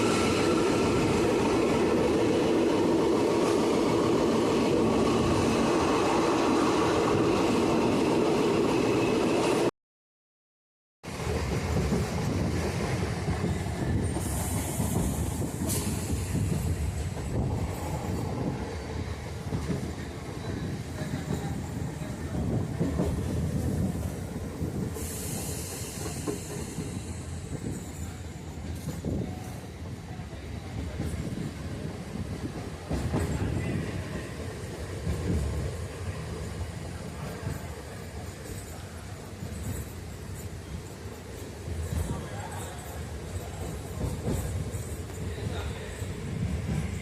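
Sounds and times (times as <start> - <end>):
train rumbling on rails: 0.0 - 9.7, 11.0 - 47.0.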